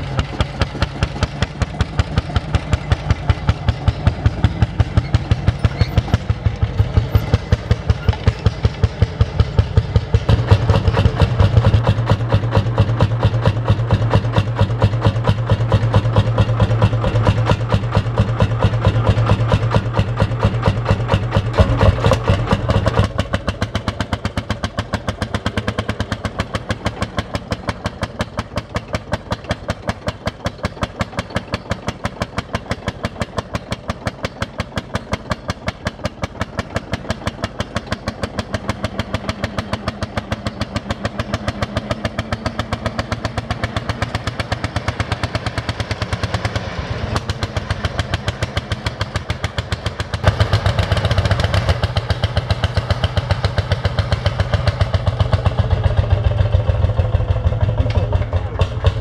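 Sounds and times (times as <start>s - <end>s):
tractor engine thumping: 0.0s - 59.0s.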